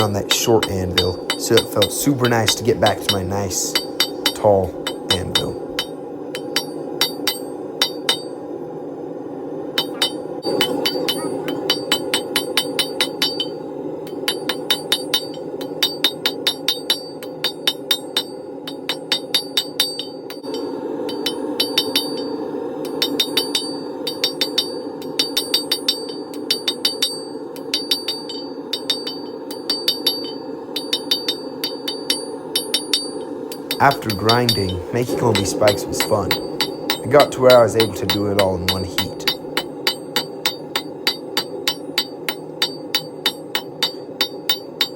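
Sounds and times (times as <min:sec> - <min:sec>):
hammer striking steel on anvil: 0:00.0 - 0:08.4, 0:09.8 - 0:44.9
steady rushing noise: 0:00.0 - 0:44.9.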